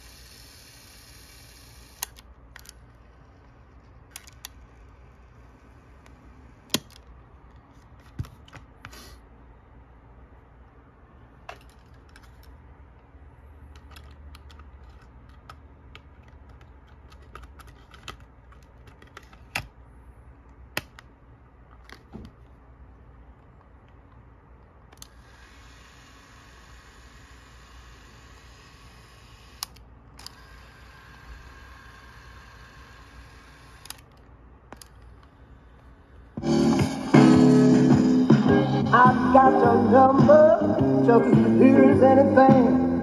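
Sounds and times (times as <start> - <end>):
faint steady background noise: 0.0 - 36.4.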